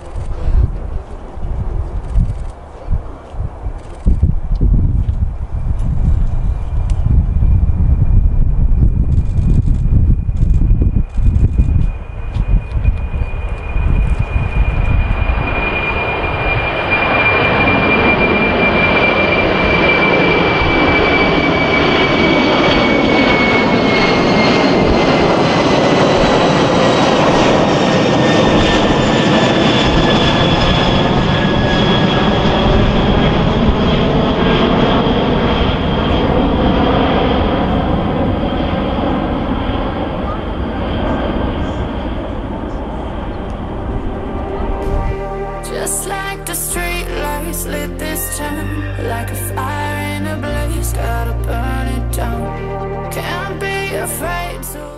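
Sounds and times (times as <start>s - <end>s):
jet aircraft roar and whine: 0.0s - 54.9s.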